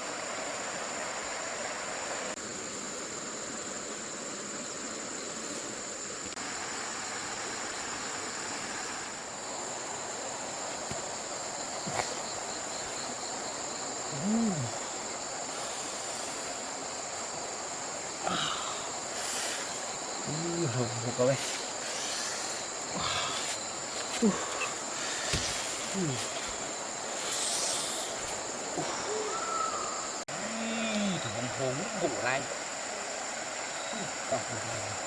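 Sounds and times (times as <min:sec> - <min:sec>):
steady hiss: 0:00.0 - 0:35.0
high-pitched insect drone: 0:05.9 - 0:35.0.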